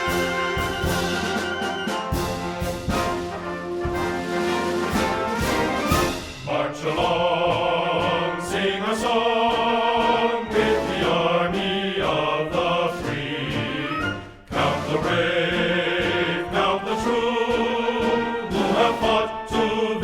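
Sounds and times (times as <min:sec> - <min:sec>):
choir singing with orchestra: 0:00.0 - 0:20.0.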